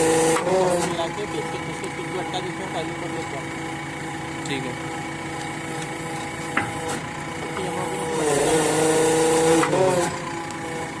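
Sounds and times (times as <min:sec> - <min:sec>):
diesel engine idling: 0:00.0 - 0:11.0
hydraulics hissing: 0:00.0 - 0:11.0.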